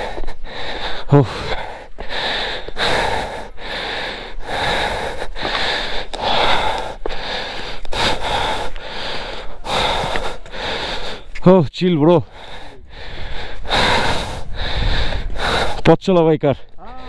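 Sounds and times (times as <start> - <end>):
person panting: 0.0 - 11.4, 12.2 - 15.8.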